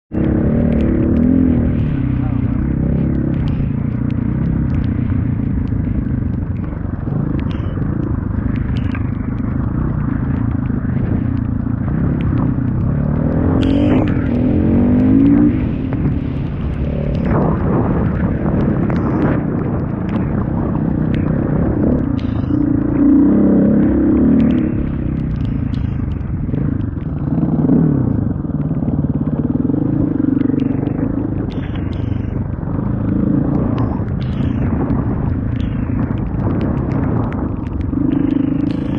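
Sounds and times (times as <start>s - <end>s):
motorcycle engine accelerating: 0.1s - 38.9s
wind and road noise: 0.1s - 38.9s.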